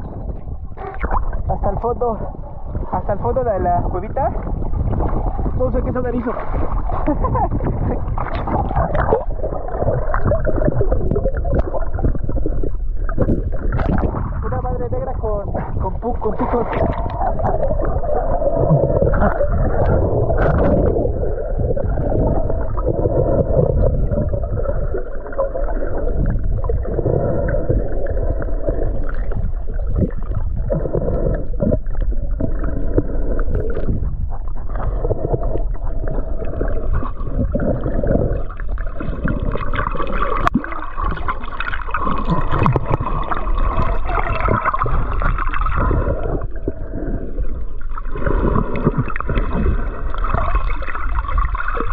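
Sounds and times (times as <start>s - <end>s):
low rumble: 0.0s - 51.9s
muffled underwater sloshing: 0.0s - 51.9s.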